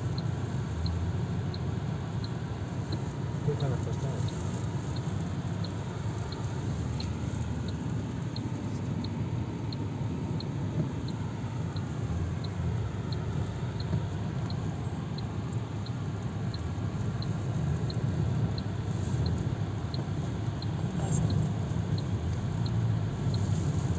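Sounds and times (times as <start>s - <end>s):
faint high ticks: 4.2s - 23.9s.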